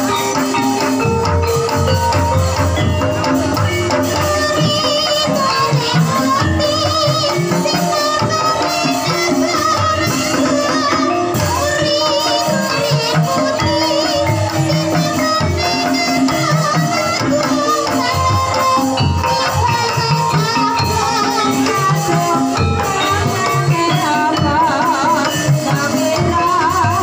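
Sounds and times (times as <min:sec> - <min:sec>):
steady percussion rhythm: 0:00.0 - 0:27.0.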